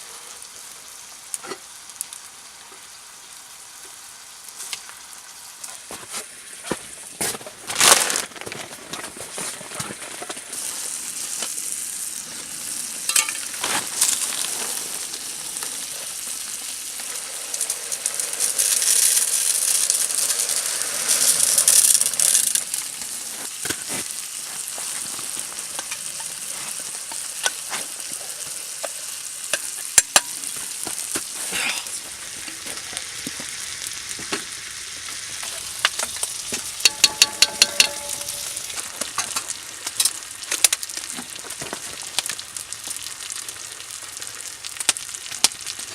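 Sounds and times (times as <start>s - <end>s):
food sizzling in a pan: 0.0s - 45.9s.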